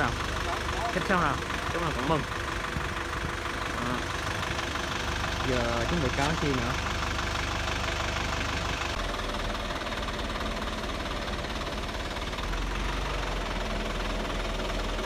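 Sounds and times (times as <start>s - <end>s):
crane truck diesel engine: 0.0s - 15.0s.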